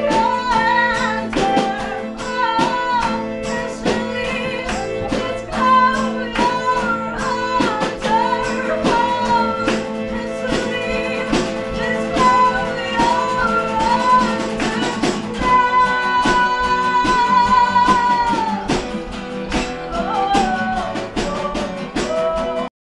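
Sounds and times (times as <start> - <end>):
acoustic guitars strummed: 0.0 - 22.7
drum kit: 0.0 - 22.7
woman singing: 0.0 - 22.7.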